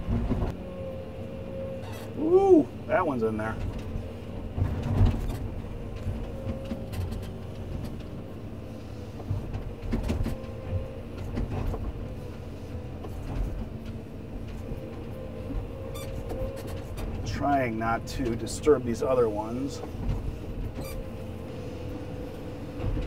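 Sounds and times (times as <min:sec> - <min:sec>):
excavator diesel engine: 0:00.0 - 0:23.0
hydraulic whine: 0:00.0 - 0:23.0.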